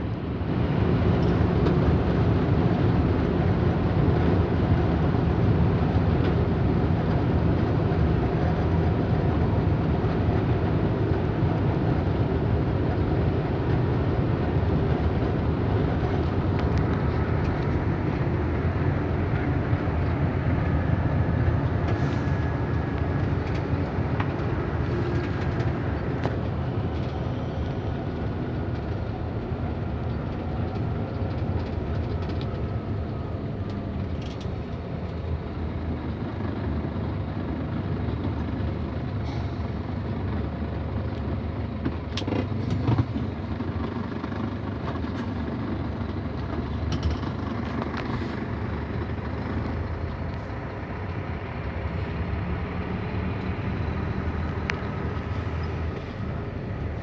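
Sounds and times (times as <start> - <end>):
truck engine and road noise: 0.0 - 57.0.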